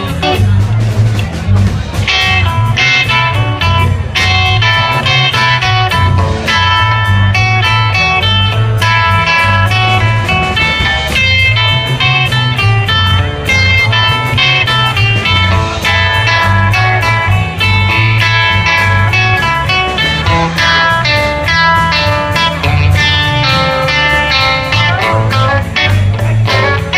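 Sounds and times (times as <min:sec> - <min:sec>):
bass and drums: 0:00.0 - 0:26.9
electric guitar: 0:00.0 - 0:26.9.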